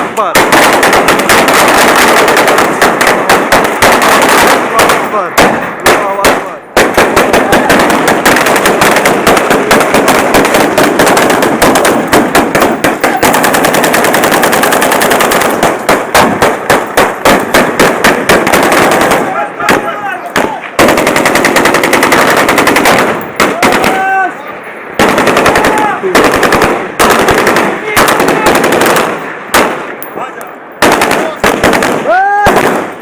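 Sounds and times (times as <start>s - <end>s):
automatic gunfire bursts: 0.0s - 24.0s, 25.0s - 29.9s, 30.8s - 33.0s.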